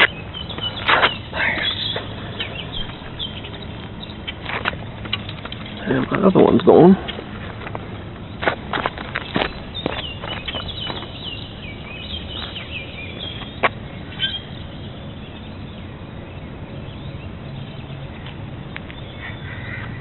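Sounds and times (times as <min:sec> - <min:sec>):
birds chirping and calling: 0:00.0 - 0:20.0.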